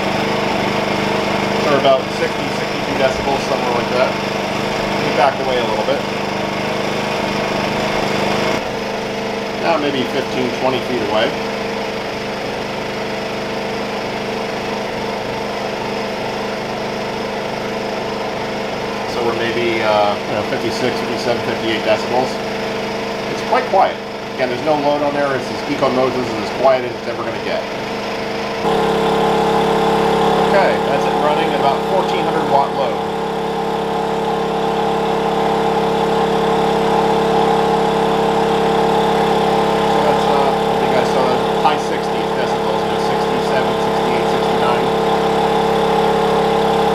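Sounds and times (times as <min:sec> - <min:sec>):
generator engine humming: 0:00.0 - 0:46.9.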